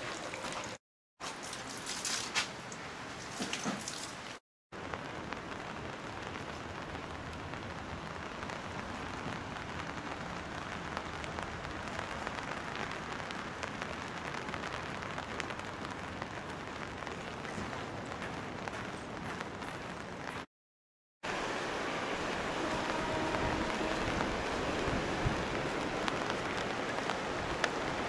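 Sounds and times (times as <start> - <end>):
steady rain: 1.3 - 20.5, 21.2 - 28.0.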